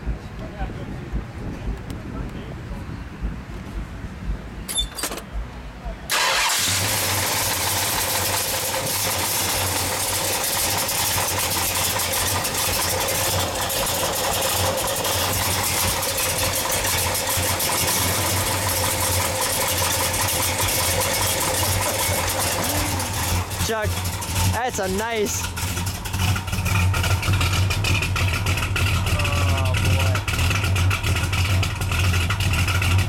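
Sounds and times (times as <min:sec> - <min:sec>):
car engine idling: 0:03.2 - 0:33.0.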